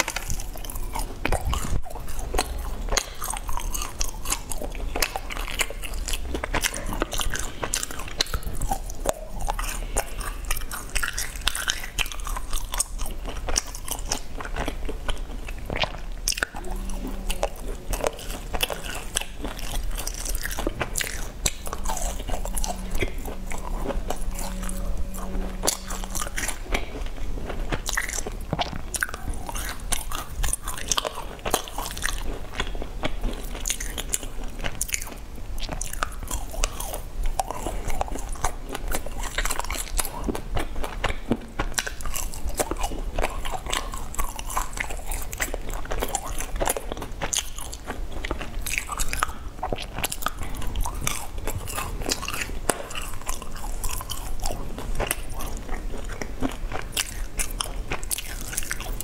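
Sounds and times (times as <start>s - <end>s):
crunching and chewing cakes: 0.0s - 59.0s.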